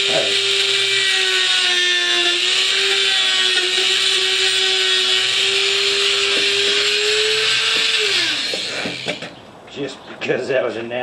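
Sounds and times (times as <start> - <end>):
rotary tool grinding plastic: 0.0 - 9.3.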